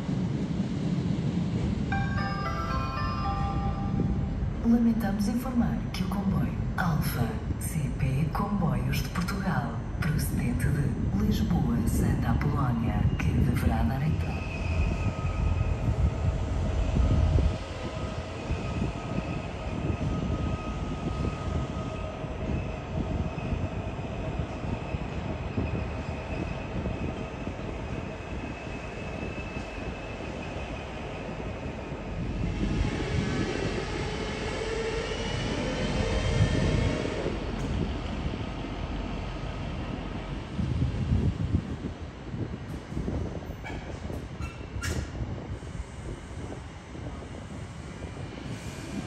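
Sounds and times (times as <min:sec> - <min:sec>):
train rumble with whine: 0:00.0 - 0:49.0.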